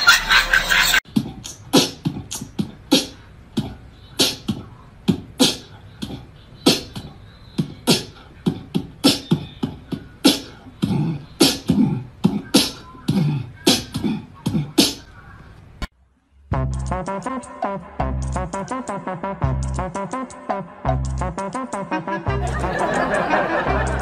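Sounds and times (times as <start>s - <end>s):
beatboxing: 0.0s - 15.2s, 16.6s - 24.0s.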